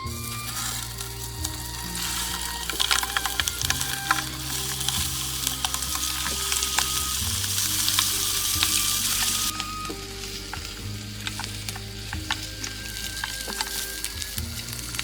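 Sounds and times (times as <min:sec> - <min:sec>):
food sizzling in a pan: 0:00.0 - 0:15.0
soft background music: 0:00.0 - 0:15.0.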